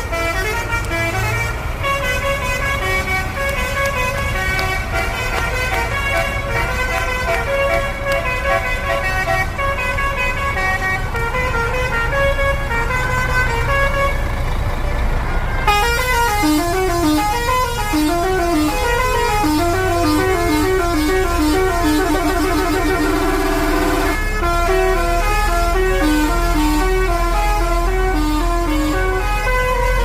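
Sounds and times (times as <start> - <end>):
bus engine running: 0.0 - 30.0
bus musical horn playing a tune: 0.0 - 30.0.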